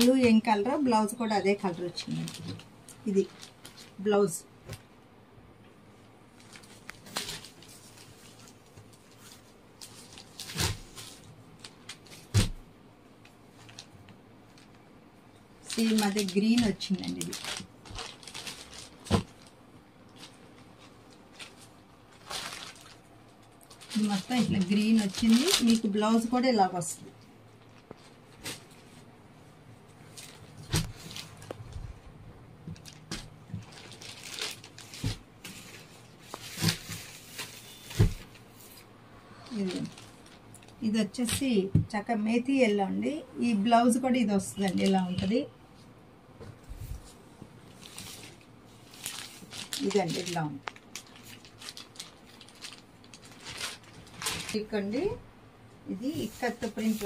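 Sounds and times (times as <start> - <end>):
cloth rustling: 6.3 - 26.7, 27.5 - 41.5, 44.6 - 55.2, 55.9 - 57.0.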